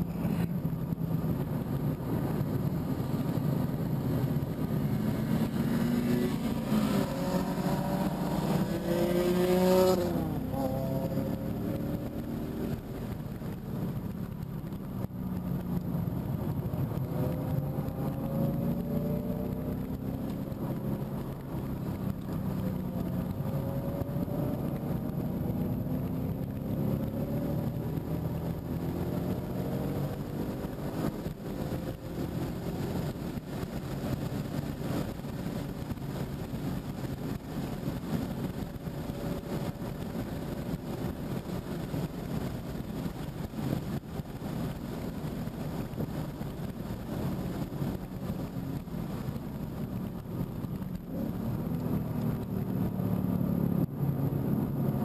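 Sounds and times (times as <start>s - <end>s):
car engine accelerating hard: 0.0s - 55.0s
road and wind noise: 0.0s - 55.0s.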